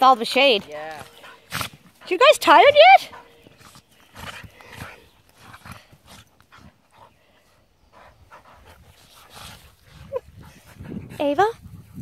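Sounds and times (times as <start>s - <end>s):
dogs panting and snuffling: 0.0s - 12.0s.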